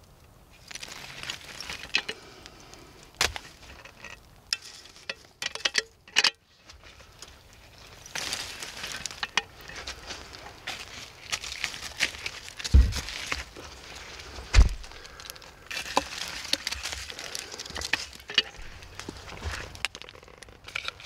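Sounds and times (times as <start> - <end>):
shovel scraping embers: 0.5 - 21.0.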